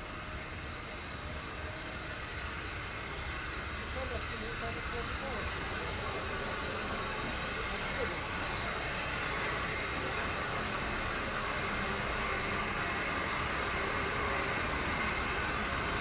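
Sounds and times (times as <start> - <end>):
train running rumble and hiss: 0.0 - 16.0.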